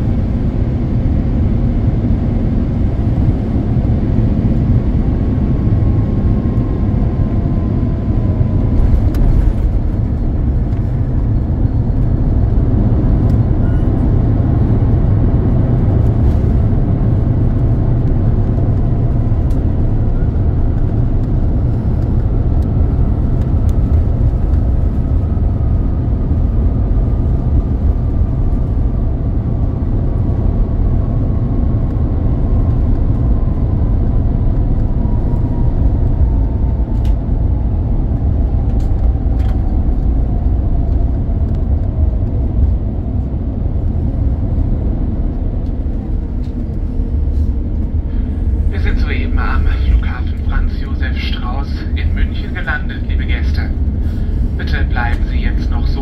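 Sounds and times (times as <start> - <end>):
aircraft cabin low rumble: 0.0 - 56.0.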